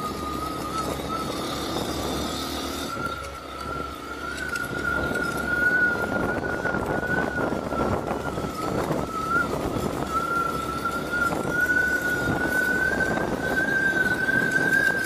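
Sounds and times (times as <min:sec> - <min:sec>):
steady high whine: 0:00.0 - 0:15.0
wind rushing over microphone: 0:00.0 - 0:15.0.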